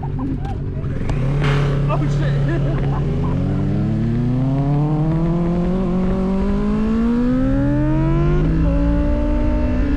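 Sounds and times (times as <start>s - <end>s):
motorcycle engine accelerating: 0.0s - 9.9s
wind and road noise: 0.0s - 9.9s.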